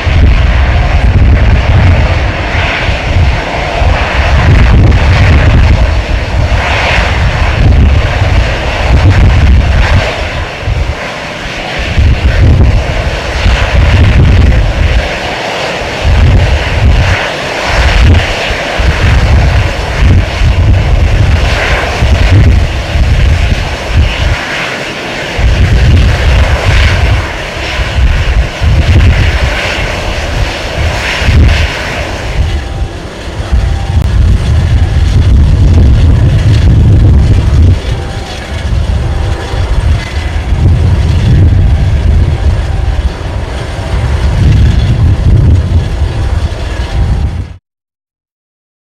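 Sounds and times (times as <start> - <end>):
heavy low rumble: 0.0 - 47.6
jet engines idling: 0.1 - 47.5.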